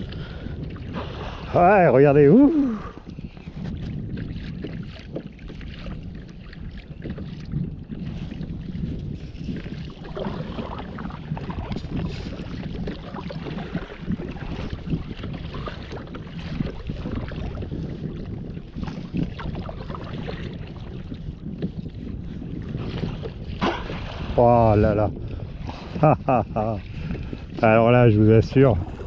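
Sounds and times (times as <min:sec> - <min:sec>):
paddle dipping and splashing: 0:00.0 - 0:29.0
water washing along hull: 0:00.0 - 0:29.0
wind rumbling on microphone: 0:00.0 - 0:29.0.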